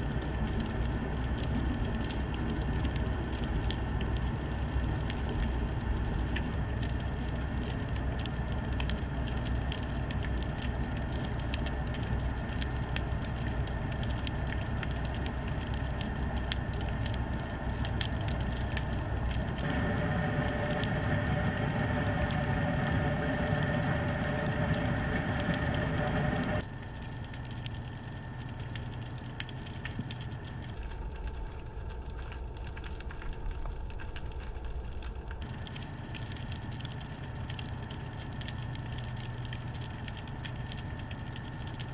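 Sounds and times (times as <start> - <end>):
dense crackle of tiny clicks: 0.0 - 41.9
low underwater rumble: 0.0 - 41.9
steady droning tone: 0.0 - 41.9.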